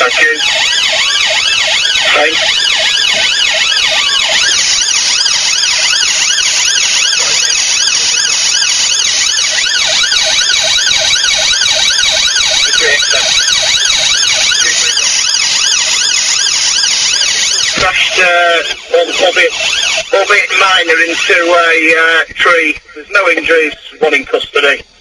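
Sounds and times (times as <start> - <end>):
police siren yelping: 0.0 - 22.0.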